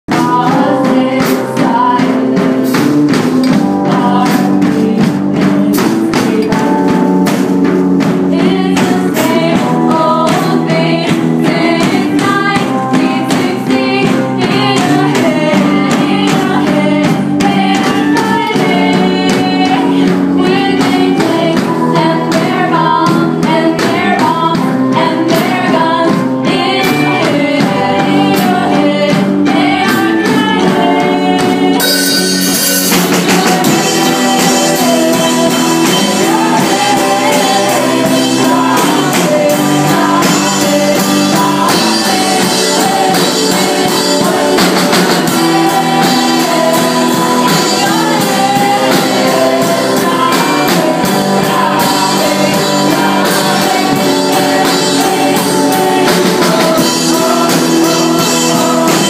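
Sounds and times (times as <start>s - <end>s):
drum hits: 0.1s - 59.0s
rock band playing: 0.1s - 59.0s
women singing: 0.1s - 59.0s.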